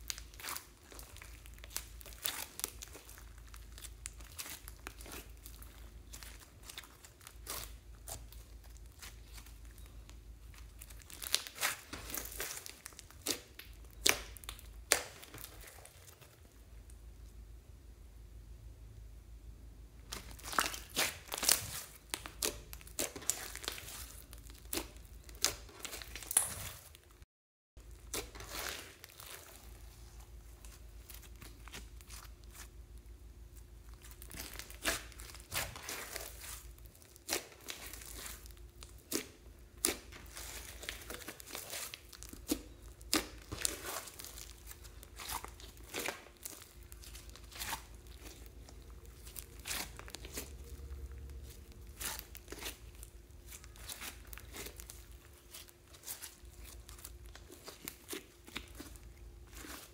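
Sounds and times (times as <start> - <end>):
slime crackling and popping: 0.0 - 16.6, 20.0 - 27.1, 27.8 - 59.9.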